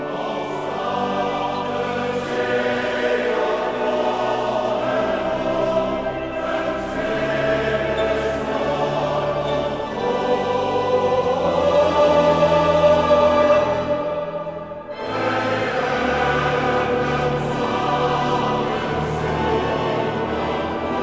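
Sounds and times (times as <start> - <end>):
male choir singing: 0.0 - 21.0
piano and organ: 0.0 - 21.0.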